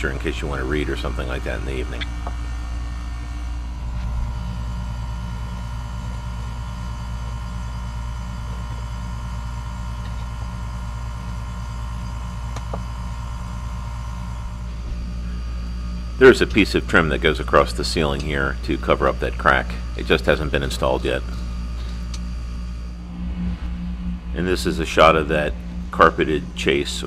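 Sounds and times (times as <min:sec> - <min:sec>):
faint high whine: 0:00.0 - 0:27.0
low mechanical hum: 0:00.0 - 0:27.0.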